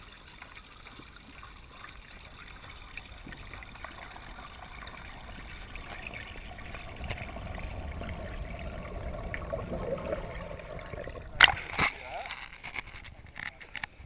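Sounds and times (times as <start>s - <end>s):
muffled underwater bubbling: 0.7s - 12.3s.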